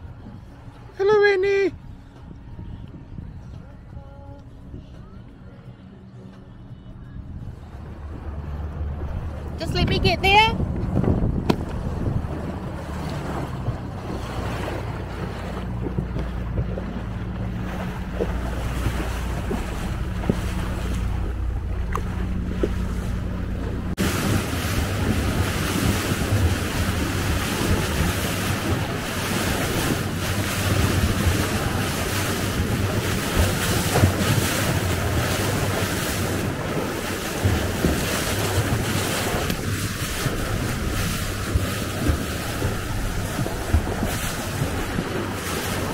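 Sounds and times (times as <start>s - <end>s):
motorboat engine running: 0.0s - 45.9s
water rushing along hull: 0.0s - 45.9s
wind on microphone: 1.8s - 5.2s, 7.0s - 45.9s.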